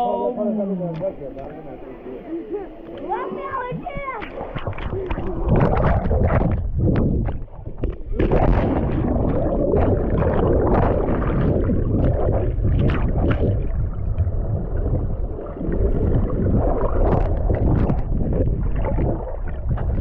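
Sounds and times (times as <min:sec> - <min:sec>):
muffled moving water: 0:00.8 - 0:20.0
water splashes: 0:02.7 - 0:20.0.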